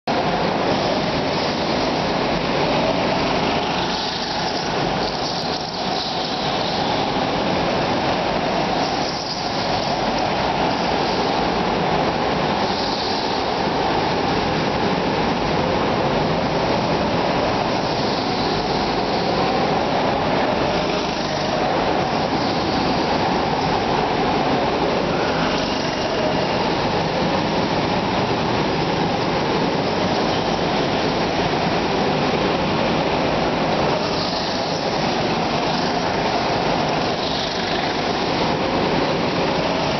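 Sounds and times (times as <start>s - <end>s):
go-kart engines droning: 0.1s - 39.9s.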